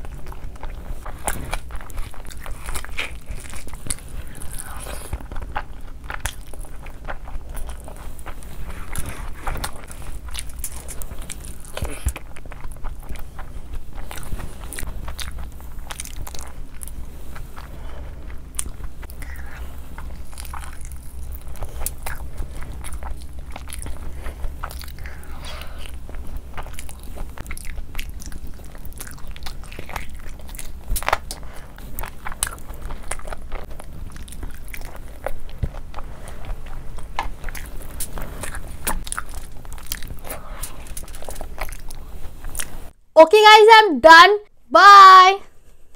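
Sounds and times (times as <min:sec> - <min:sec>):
close chewing and mouth sounds: 0:00.0 - 0:43.0
steady low hum: 0:00.0 - 0:43.2.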